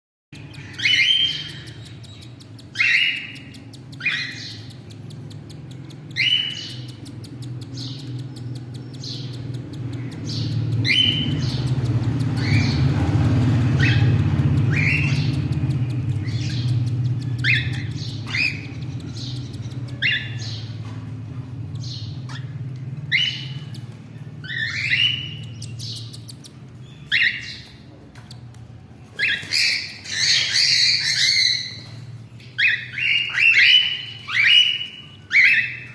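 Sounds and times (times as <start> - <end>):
steady low hum: 0.4 - 35.9.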